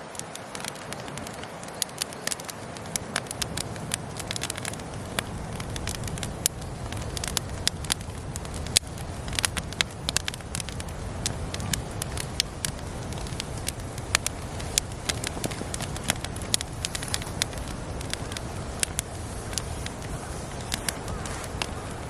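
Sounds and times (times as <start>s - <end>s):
burning wood popping and snapping: 0.0s - 22.0s
campfire crackling: 0.0s - 22.0s
low rumble of fire: 0.0s - 22.0s.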